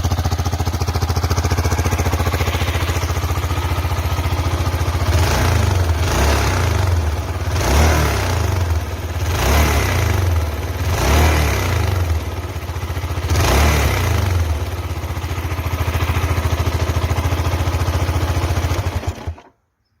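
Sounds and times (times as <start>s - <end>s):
motorcycle engine idling and revving: 0.0s - 19.6s.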